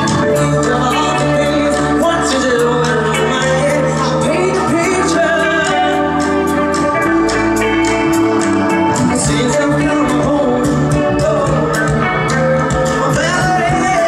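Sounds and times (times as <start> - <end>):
drums: 0.0 - 14.0
live pop band playing: 0.0 - 14.0
organ-like keyboard chords: 0.0 - 14.0
person singing: 0.0 - 14.0.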